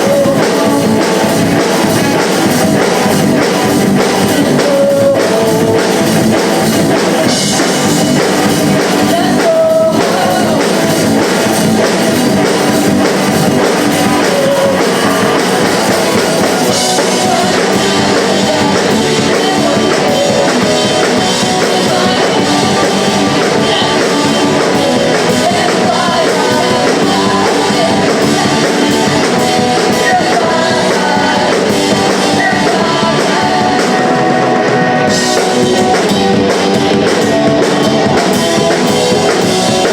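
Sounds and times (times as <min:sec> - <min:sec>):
person singing: 0:00.0 - 0:39.9
punk rock band playing live: 0:00.0 - 0:39.9.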